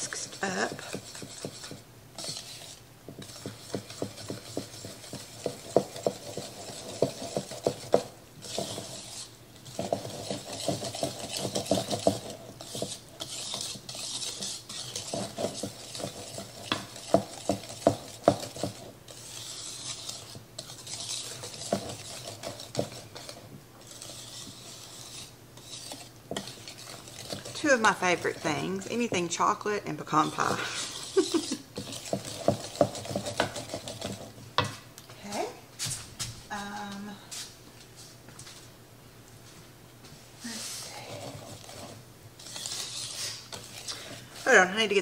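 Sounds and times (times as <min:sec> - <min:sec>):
whisk clicking and scraping bowl: 0:00.0 - 0:35.1, 0:40.6 - 0:45.0.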